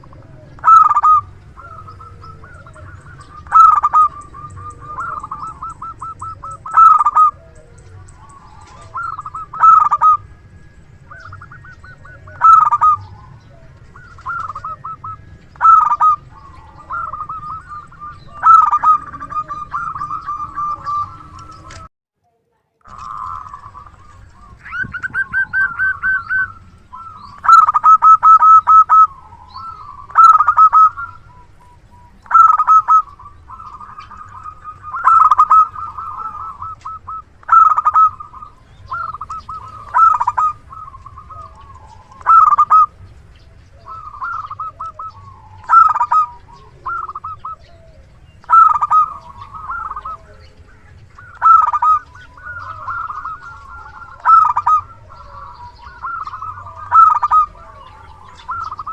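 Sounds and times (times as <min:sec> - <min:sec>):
dove cooing: 0:00.0 - 0:21.9, 0:22.8 - 0:58.9.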